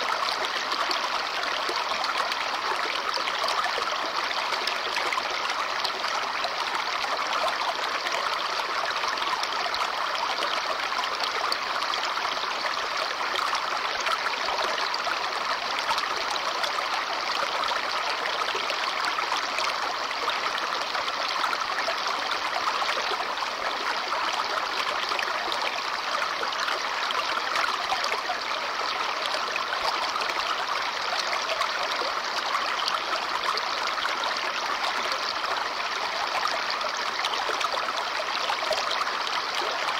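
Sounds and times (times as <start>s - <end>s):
brook water trickling over stones: 0.0s - 39.9s.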